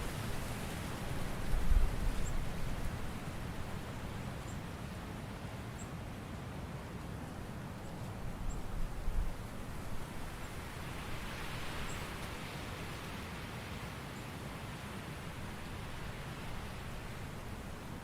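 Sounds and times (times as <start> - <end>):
wind rustling leaves: 0.0 - 18.0.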